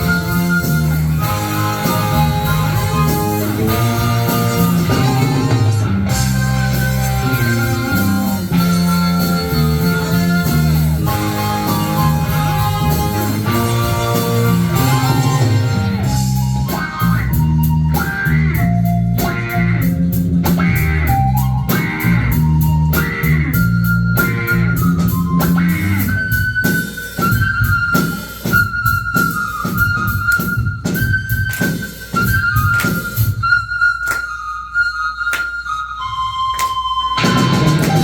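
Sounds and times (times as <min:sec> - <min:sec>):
rock band playing: 0:00.0 - 0:33.4, 0:37.1 - 0:38.0
pan flute melody: 0:00.0 - 0:38.0.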